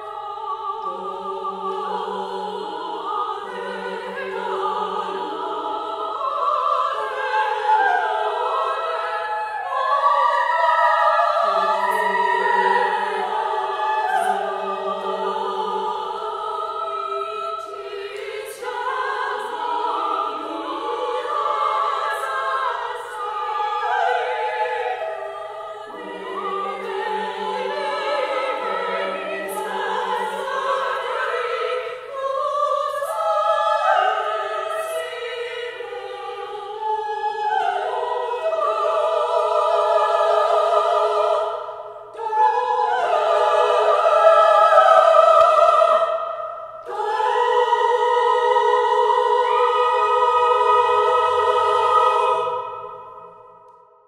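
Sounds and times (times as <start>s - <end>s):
women's choir singing: 0.0s - 54.0s.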